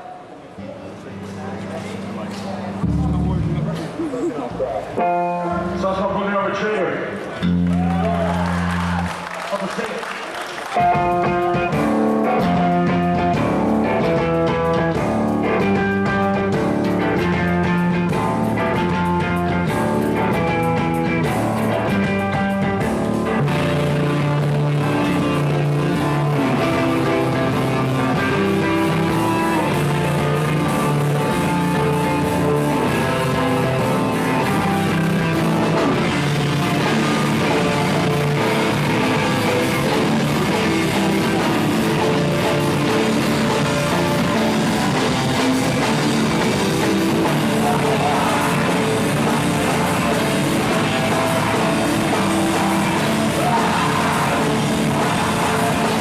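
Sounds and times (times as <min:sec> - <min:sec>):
rock band playing: 0:01.2 - 0:10.0, 0:10.6 - 0:56.0.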